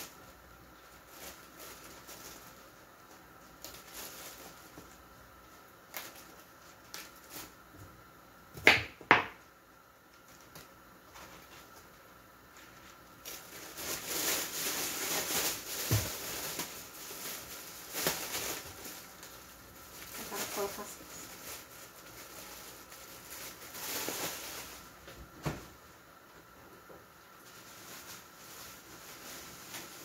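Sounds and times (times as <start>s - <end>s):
plastic bag rustling: 0.0s - 7.8s, 10.2s - 25.8s, 27.2s - 30.0s.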